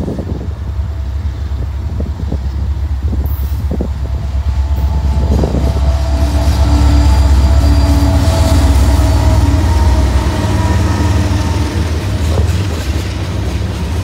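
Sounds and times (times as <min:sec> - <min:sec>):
diesel locomotive engine rumble: 0:00.0 - 0:14.0
steady whine: 0:00.7 - 0:13.0.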